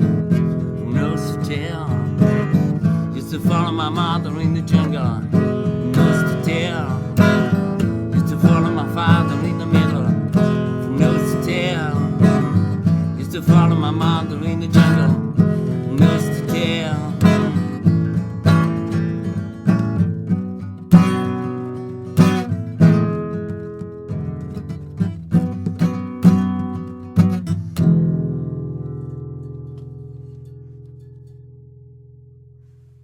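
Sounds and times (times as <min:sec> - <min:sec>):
strummed acoustic guitar: 0:00.0 - 0:33.0.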